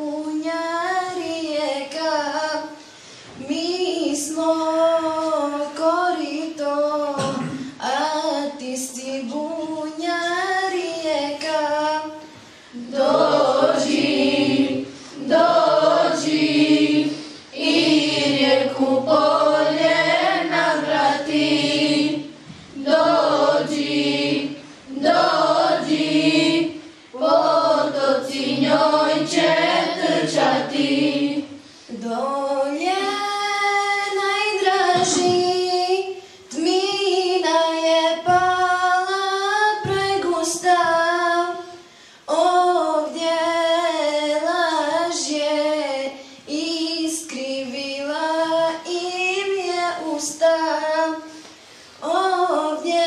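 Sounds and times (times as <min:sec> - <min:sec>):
girls singing unaccompanied: 0:00.0 - 0:02.7, 0:03.4 - 0:12.2, 0:12.8 - 0:51.2, 0:52.0 - 0:53.0.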